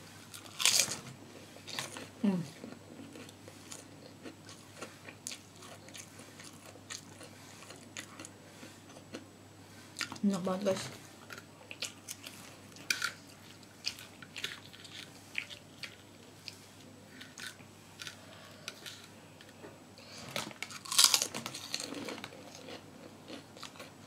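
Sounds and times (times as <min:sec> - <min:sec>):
person chewing crunchy food: 0:00.2 - 0:09.3, 0:11.2 - 0:19.1, 0:20.0 - 0:24.0.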